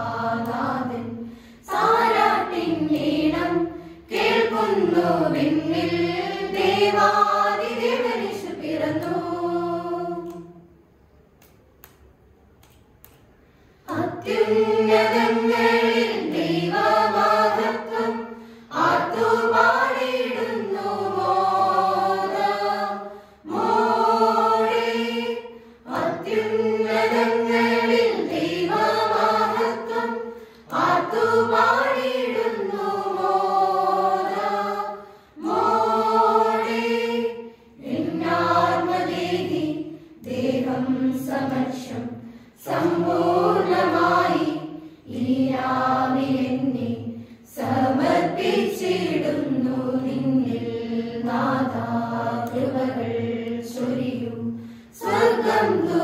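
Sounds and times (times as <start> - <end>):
choir singing a hymn: 0.0 - 10.8, 13.8 - 56.0.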